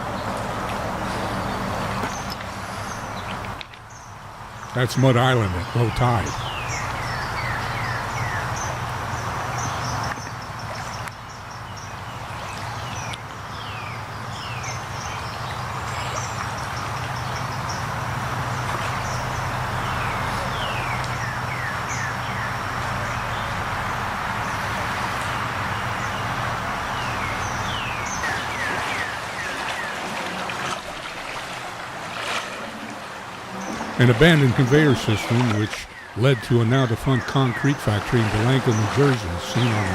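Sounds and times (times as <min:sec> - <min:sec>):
low engine-like hum: 0:00.0 - 0:39.9.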